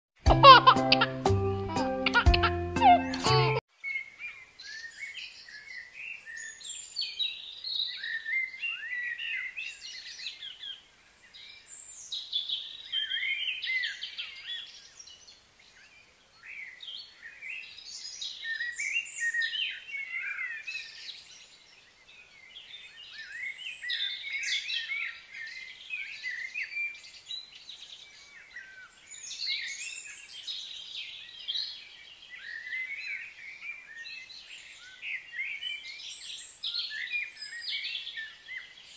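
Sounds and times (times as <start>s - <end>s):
birds chirping and twittering: 0.4s - 38.9s.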